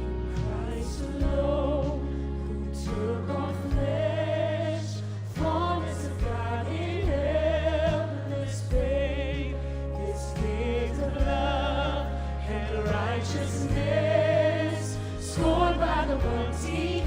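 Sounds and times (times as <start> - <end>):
low bass notes: 0.0 - 17.0
wordless held vocal notes: 0.0 - 17.0.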